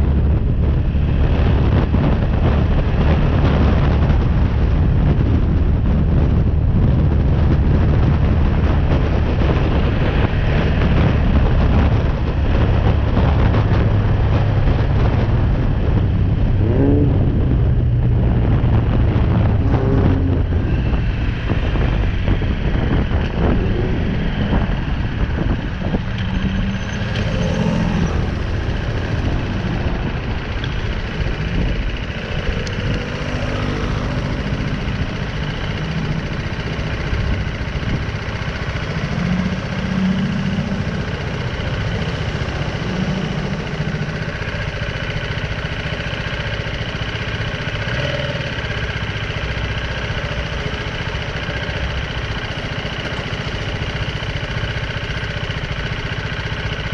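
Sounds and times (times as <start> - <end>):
motorcycle engine running: 0.0 - 56.9
wind noise on microphone: 0.0 - 56.9.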